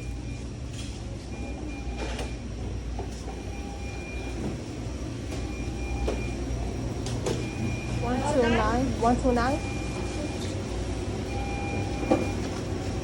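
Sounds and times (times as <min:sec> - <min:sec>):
ventilation and kitchen hum: 0:00.0 - 0:13.0.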